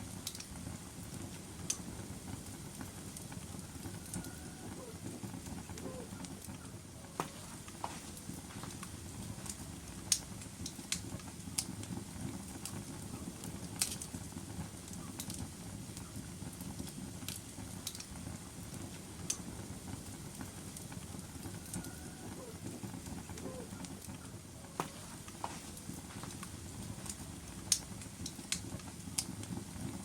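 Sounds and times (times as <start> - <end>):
low rumble of flames: 0.0 - 30.0
crackles and pops of logs: 0.1 - 30.0.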